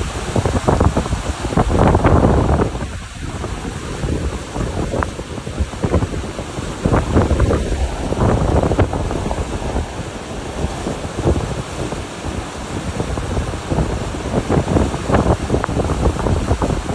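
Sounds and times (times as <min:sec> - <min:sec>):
rushing river: 0:00.0 - 0:16.9
wind buffeting microphone: 0:00.0 - 0:16.9.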